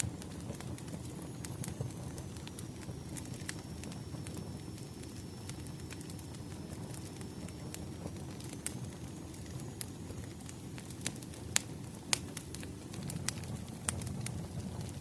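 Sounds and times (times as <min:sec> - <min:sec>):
firewood crackling: 0:00.0 - 0:15.0.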